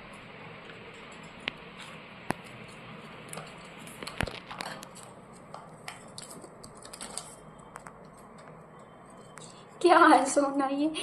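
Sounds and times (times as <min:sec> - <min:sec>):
parrot clicking and nibbling: 0:00.2 - 0:09.6.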